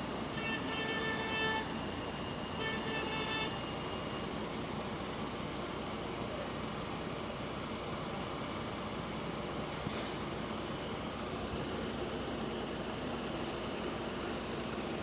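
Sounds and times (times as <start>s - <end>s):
bus engine with exhaust leak: 0.0s - 15.0s
traffic noise: 0.0s - 15.0s.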